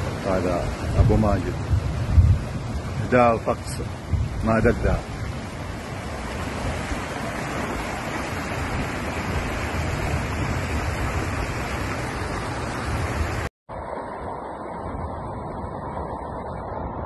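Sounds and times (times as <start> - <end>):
flood water rushing: 0.0 - 17.0.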